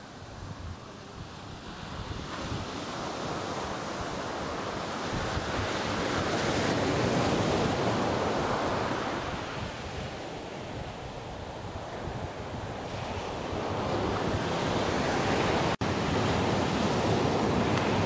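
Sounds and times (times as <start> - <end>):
ocean surf on beach: 0.0 - 18.0
wind buffeting microphone: 0.0 - 18.0.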